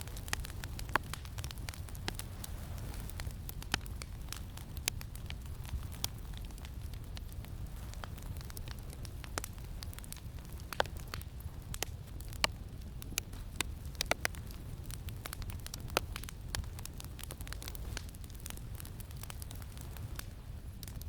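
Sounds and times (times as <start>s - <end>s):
campfire crackling: 0.0s - 21.0s
low rumble of wind: 0.0s - 21.0s.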